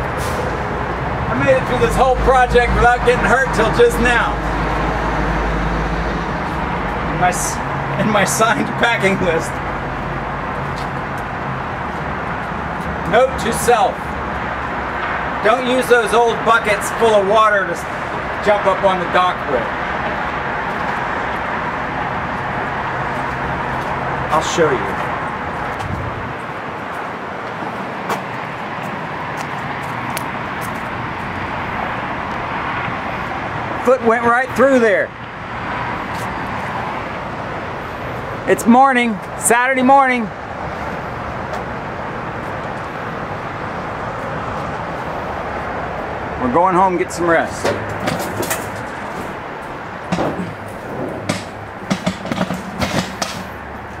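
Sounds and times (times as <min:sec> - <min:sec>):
city traffic hum: 0:00.0 - 0:54.0.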